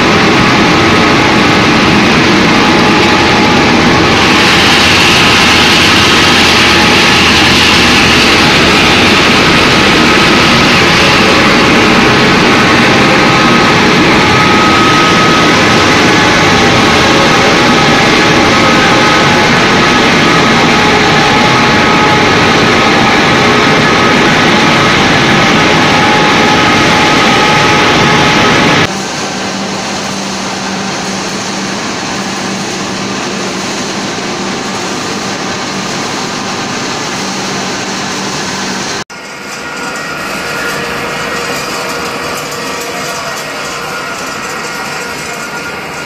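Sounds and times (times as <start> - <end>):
machinery running: 0.0 - 46.0.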